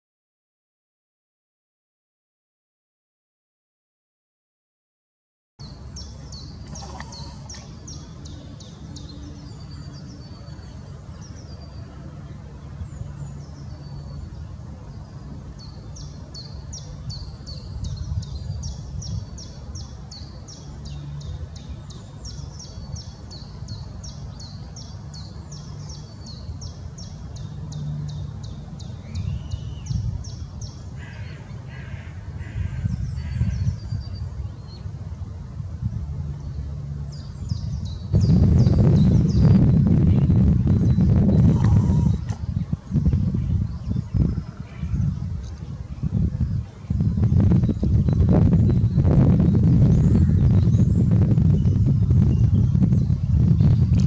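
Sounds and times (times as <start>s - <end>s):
songbirds singing: 5.6s - 54.0s.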